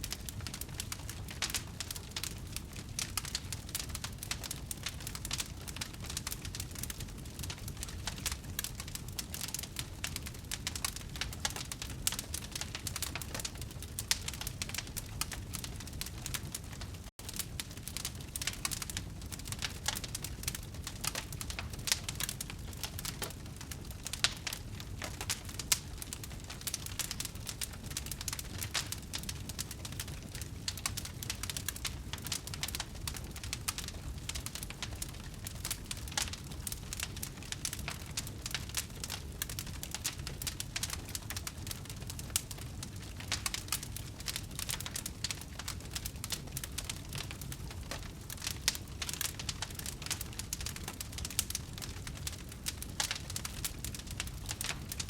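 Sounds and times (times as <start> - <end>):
fire crackling: 0.0 - 55.0
fire popping: 0.0 - 55.0
low rumble of flames: 0.0 - 55.0.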